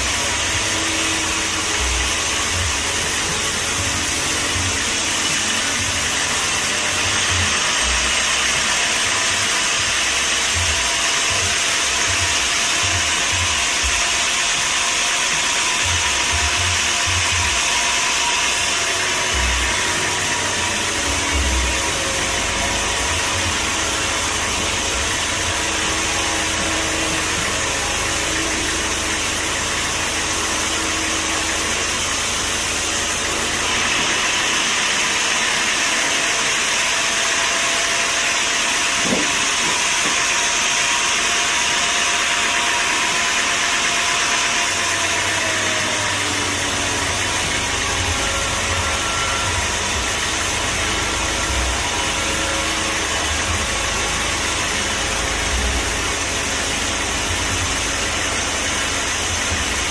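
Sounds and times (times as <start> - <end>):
engine-driven machine running: 0.0 - 59.9.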